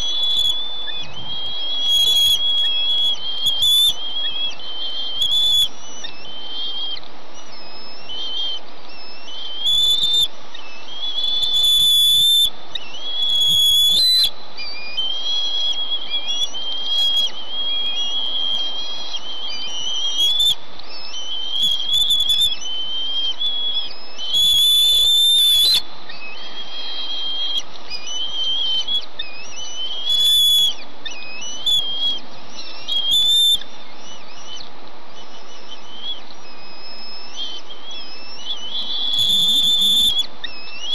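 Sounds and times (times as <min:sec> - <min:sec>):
eaglets whistled begging calls: 0:00.0 - 0:40.9.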